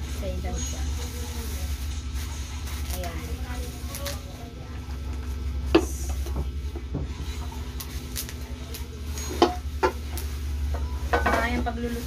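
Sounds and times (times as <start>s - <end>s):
plastic packaging rustling: 0.0s - 12.0s
steady low hum: 0.0s - 12.0s.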